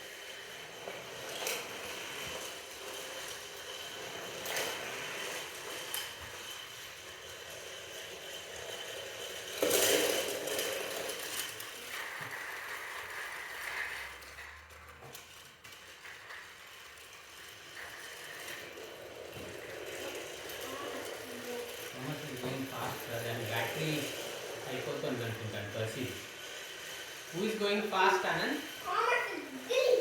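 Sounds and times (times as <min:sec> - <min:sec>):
toy train motors whirring: 0:00.0 - 0:30.0.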